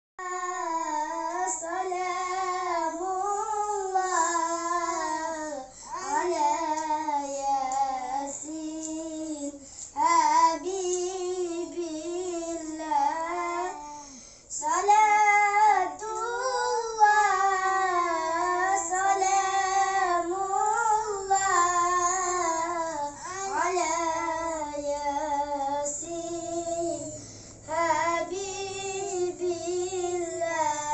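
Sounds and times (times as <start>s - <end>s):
boys singing devotional song: 0.2s - 30.9s.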